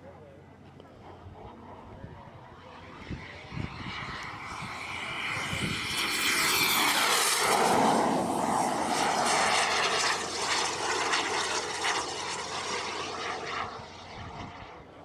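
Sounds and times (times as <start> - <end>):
jet turbine whine passing: 0.9 - 15.0.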